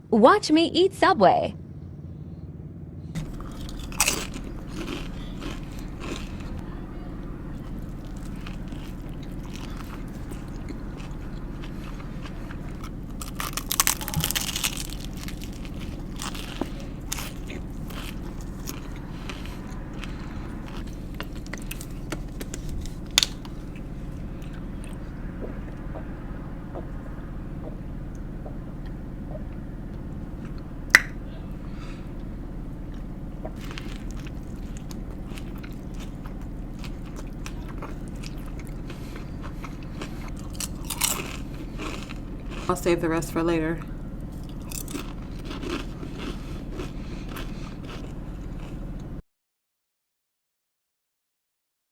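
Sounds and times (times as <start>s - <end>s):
low hum: 0.0s - 49.2s
crunchy bites and chewing: 3.2s - 26.2s, 28.8s - 49.2s.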